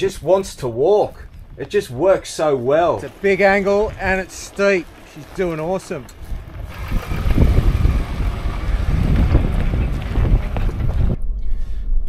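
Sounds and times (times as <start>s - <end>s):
vehicle engine rumble: 0.0s - 11.8s
wind buffeting microphone: 0.0s - 12.0s.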